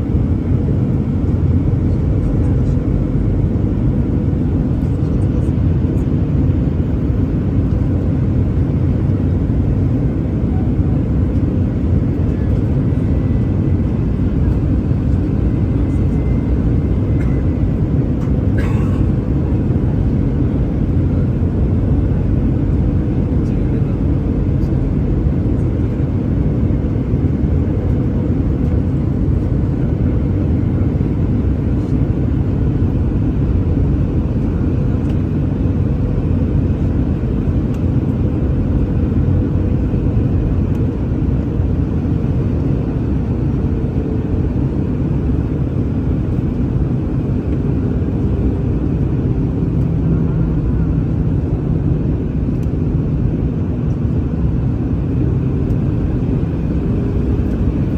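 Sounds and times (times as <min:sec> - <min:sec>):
aircraft cabin engine rumble: 0:00.0 - 0:57.9.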